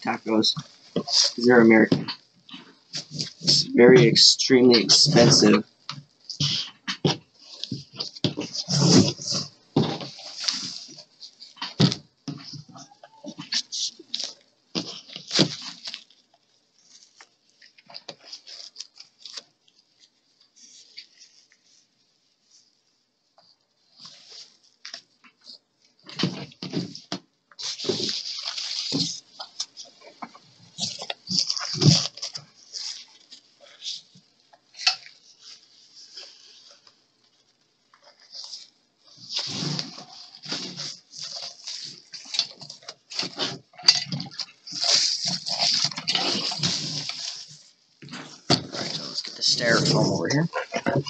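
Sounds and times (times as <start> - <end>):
foam sheet crinkling and rustling: 0.0 - 51.0.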